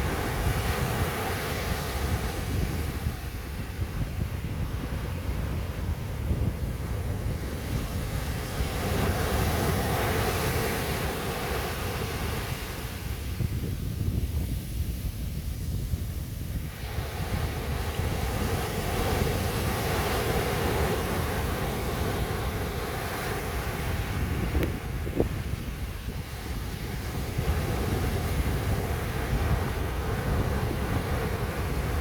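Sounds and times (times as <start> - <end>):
waves breaking on beach: 0.0 - 32.0
wind buffeting microphone: 0.0 - 32.0.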